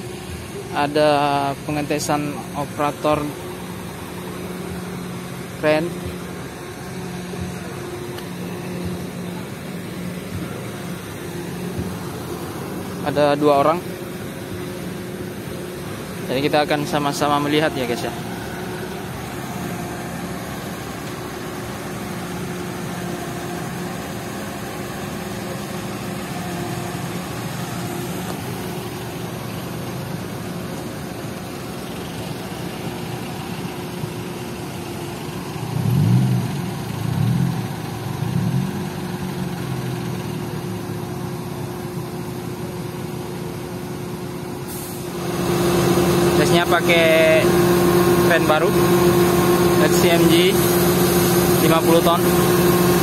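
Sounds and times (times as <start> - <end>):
diesel engine revving: 0.0 - 53.0.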